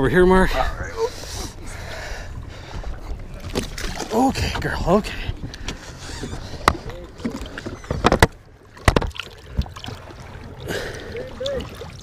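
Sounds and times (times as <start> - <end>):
water sloshing against boat: 0.0 - 12.0.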